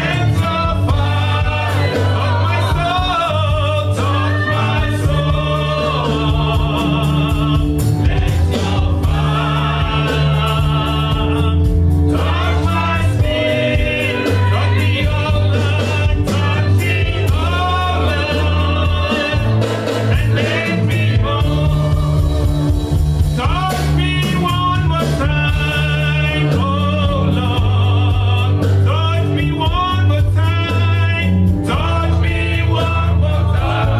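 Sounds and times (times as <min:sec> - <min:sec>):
band bass notes: 0:00.0 - 0:33.9
gospel singers: 0:00.0 - 0:33.9.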